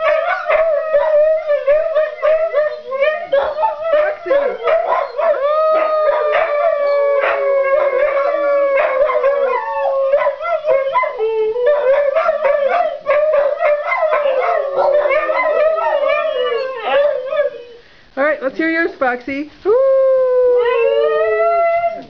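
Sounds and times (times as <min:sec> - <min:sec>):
huskies howling: 0:00.0 - 0:17.8.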